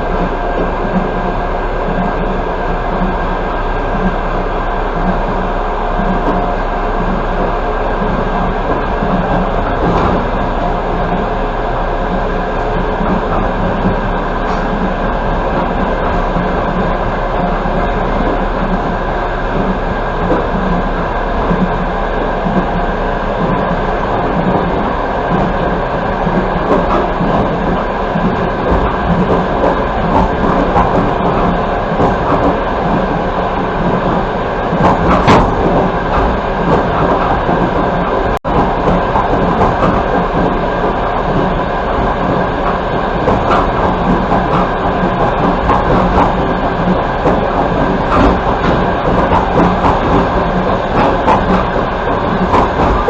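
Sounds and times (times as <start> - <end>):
train rumble inside carriage: 0.0 - 53.0
wheel clacks on rails: 0.0 - 53.0.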